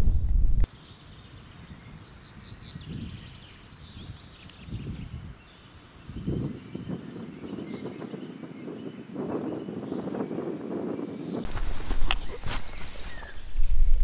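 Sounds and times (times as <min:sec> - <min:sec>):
wind gusts on microphone: 0:00.0 - 0:14.0.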